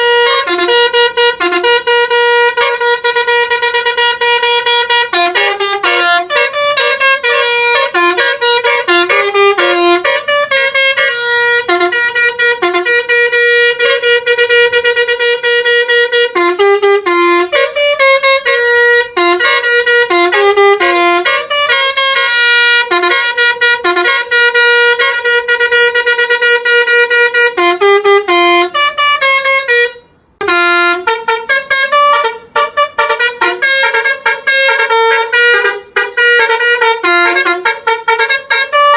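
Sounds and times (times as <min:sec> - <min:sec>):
bus horn playing a tune: 0:00.0 - 0:38.9.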